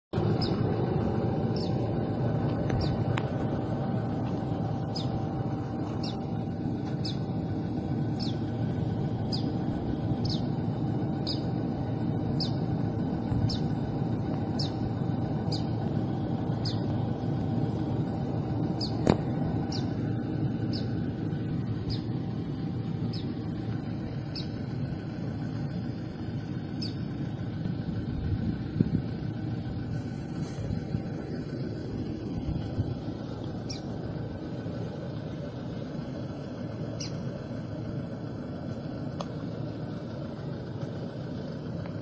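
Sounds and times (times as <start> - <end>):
faint hum: 0.2 - 42.0
low rumble: 0.2 - 42.0.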